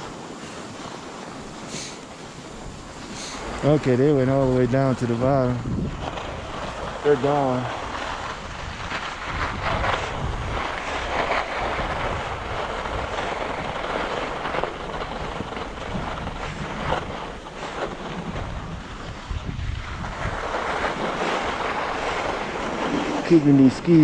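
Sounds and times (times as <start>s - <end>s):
skis sliding on snow: 0.0s - 24.0s
wind buffeting microphone: 0.0s - 24.0s.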